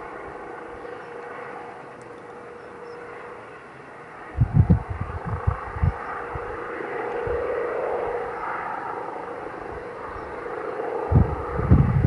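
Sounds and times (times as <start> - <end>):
helicopter droning: 0.0 - 12.0.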